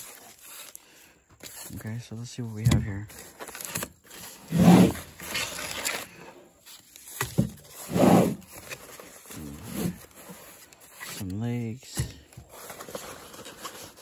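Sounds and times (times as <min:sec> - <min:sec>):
nylon bag rustling and scraping: 0:00.0 - 0:11.7, 0:12.4 - 0:14.0.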